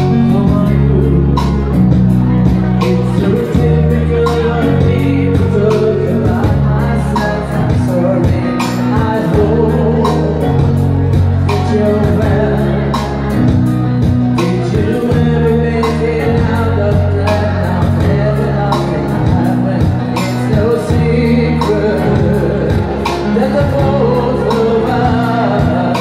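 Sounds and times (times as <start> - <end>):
deep bass notes: 0.0 - 26.0
keyboard accompaniment: 0.0 - 26.0
person singing into a microphone: 0.0 - 26.0.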